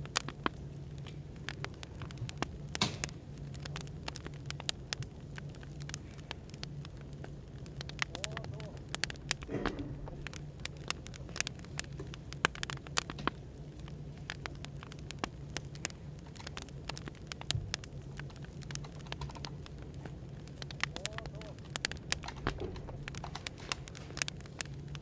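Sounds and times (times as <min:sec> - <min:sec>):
low background hum: 0:00.0 - 0:25.0
wood fire crackling: 0:00.0 - 0:25.0.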